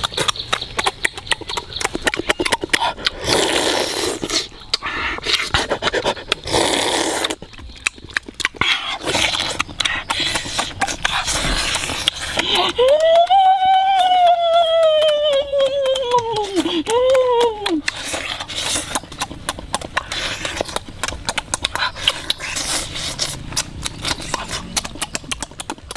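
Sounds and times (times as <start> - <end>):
wet lip-smacking and chewing: 0.0 - 25.9.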